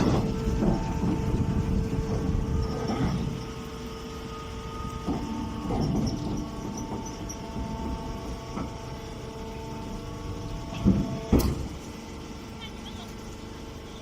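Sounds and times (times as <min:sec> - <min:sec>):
hay baler rumbling: 0:00.0 - 0:13.2
machine whine: 0:00.0 - 0:14.0.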